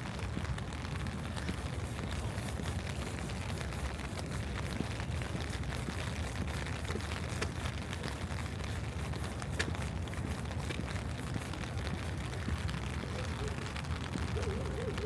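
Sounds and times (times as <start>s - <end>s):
rain drops ticking: 0.0s - 15.0s.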